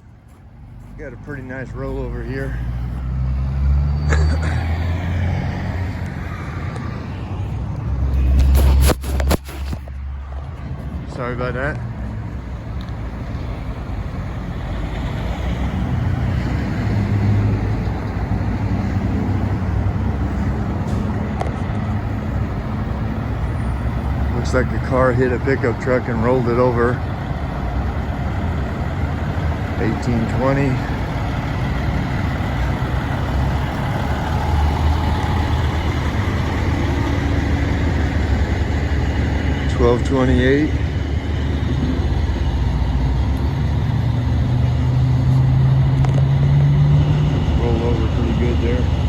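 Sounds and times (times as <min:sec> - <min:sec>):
road traffic rumble: 0:00.0 - 0:49.0
vehicle passing: 0:00.0 - 0:49.0.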